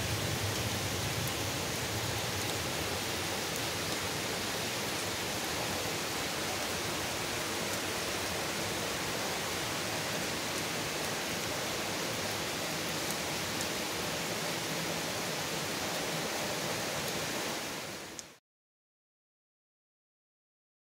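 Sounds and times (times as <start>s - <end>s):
steady rain falling: 0.0s - 18.4s.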